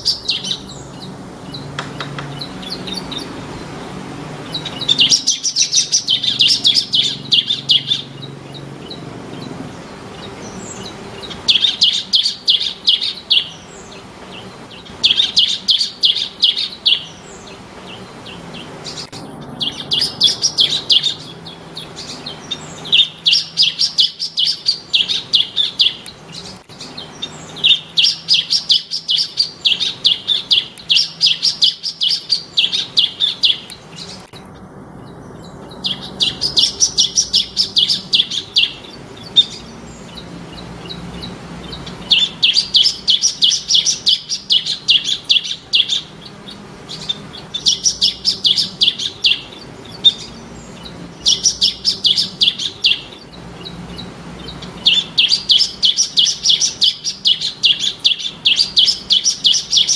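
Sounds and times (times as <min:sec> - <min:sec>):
bird singing rapid high notes: 0:00.0 - 0:59.9.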